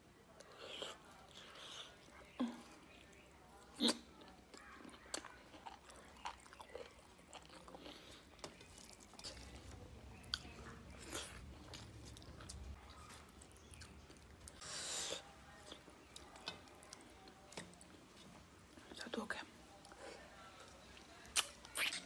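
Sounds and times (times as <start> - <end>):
chewing with wet mouth clicks: 0.4 - 14.6, 15.2 - 18.9, 20.6 - 22.0.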